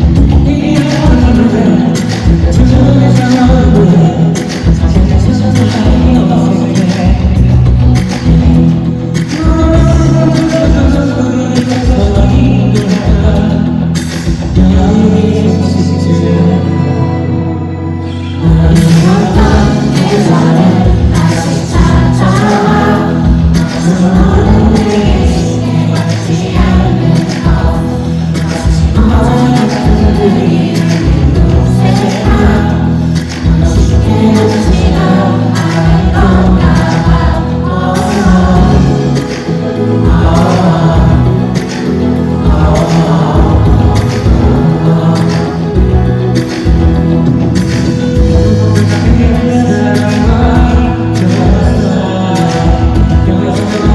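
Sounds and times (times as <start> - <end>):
drum beat: 0.0 - 13.6, 18.5 - 53.9
live pop band: 0.0 - 53.9
person singing: 0.0 - 53.9.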